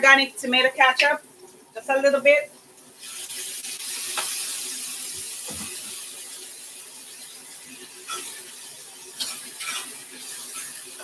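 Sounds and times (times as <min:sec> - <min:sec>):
vegetables sizzling in a skillet: 0:00.0 - 0:11.0.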